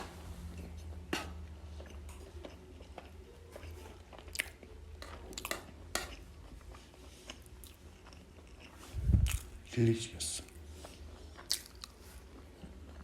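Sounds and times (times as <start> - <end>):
person chewing food: 0.0 - 9.7, 10.4 - 13.0.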